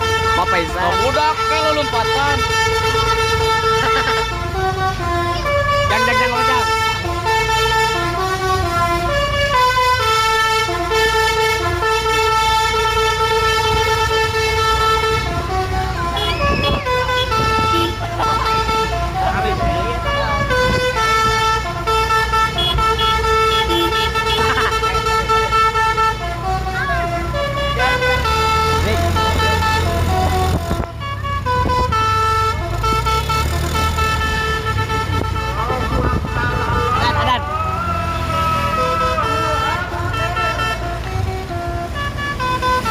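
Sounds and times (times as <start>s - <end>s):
musical horn playing a melody: 0.0s - 42.9s
vehicle engine rumbling: 0.0s - 42.9s.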